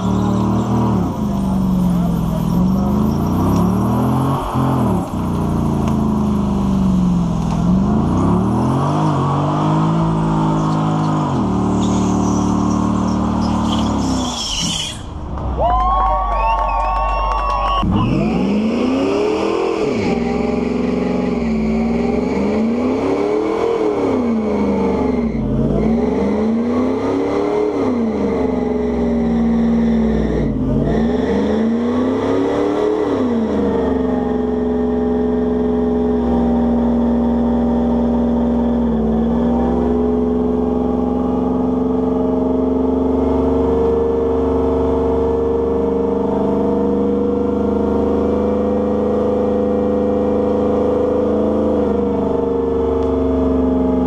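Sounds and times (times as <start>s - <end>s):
truck engine revving: 0.0s - 15.6s, 16.6s - 54.0s.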